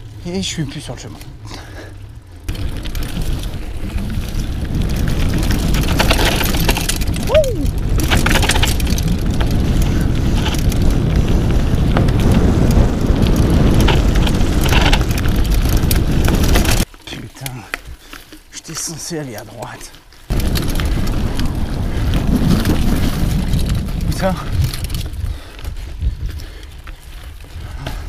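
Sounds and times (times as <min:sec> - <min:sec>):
mountain bike rumbling over rough ground: 0:00.0 - 0:28.0.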